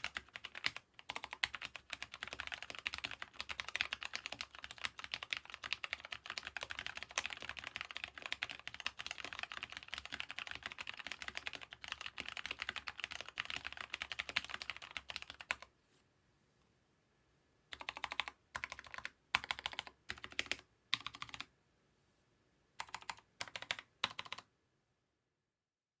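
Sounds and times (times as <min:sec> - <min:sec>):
mechanical keyboard typing: 0:00.0 - 0:15.7, 0:17.7 - 0:21.5, 0:22.8 - 0:24.5.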